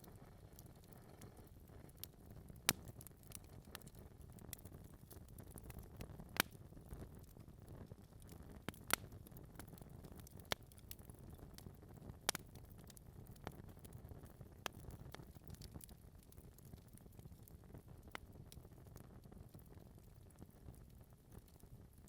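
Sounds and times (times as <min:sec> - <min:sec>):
fire crackling and popping: 0:00.0 - 0:22.0
low rustle of flames: 0:00.0 - 0:22.0.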